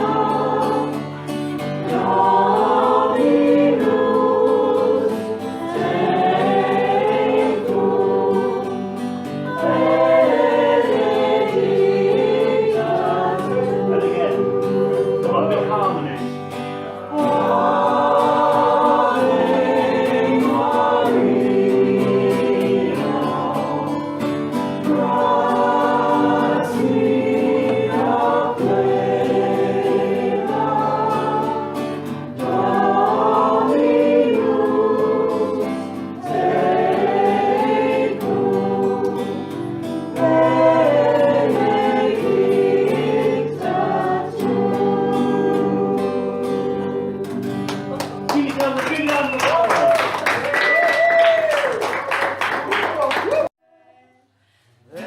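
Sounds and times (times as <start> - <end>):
choir singing a hymn: 0.0 - 47.7.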